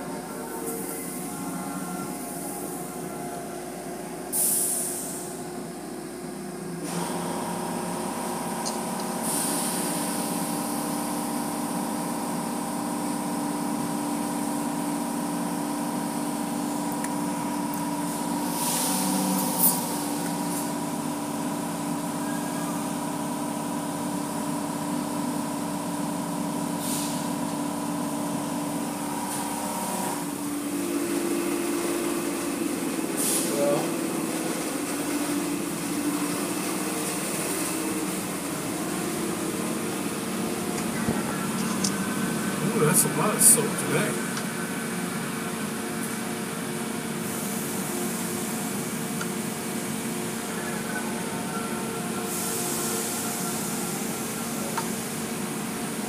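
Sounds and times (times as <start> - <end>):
car wash pumps and motors humming: 0.0 - 56.0.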